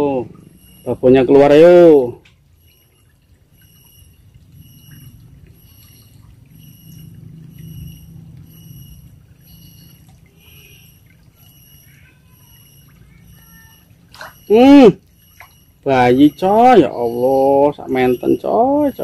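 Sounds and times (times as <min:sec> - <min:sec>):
faint pulsing high tone: 0:00.0 - 0:19.0
water rushing into a pool: 0:02.9 - 0:19.0.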